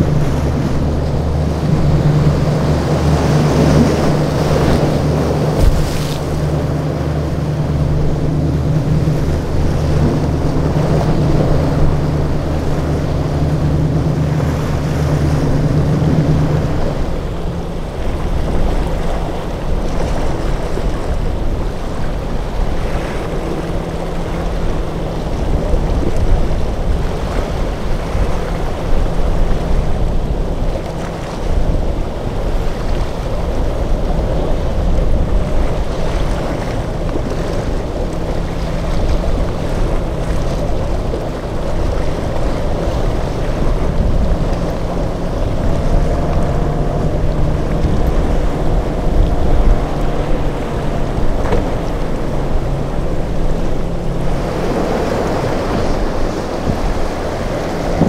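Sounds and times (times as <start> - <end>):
boat engines running: 0.0 - 58.0
waves breaking: 0.0 - 58.0
wind buffeting microphone: 0.0 - 58.0.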